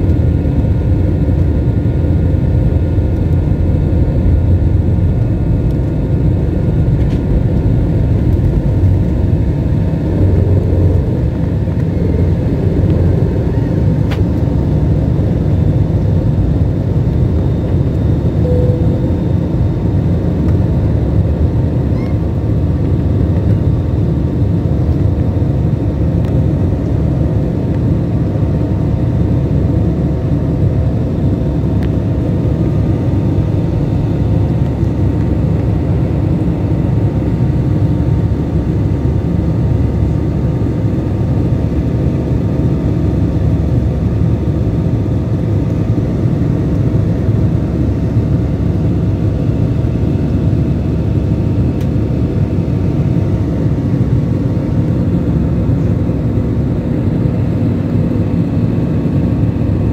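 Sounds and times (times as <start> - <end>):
faint steady hums: 0.0 - 59.9
jet cabin engine rumble: 0.0 - 59.9.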